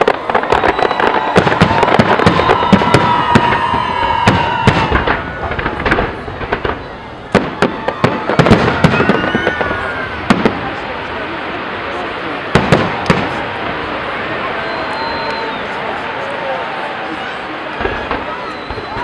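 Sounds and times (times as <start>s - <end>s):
fireworks bangs and crackles: 0.0s - 19.0s
fireworks whistling: 0.0s - 19.0s.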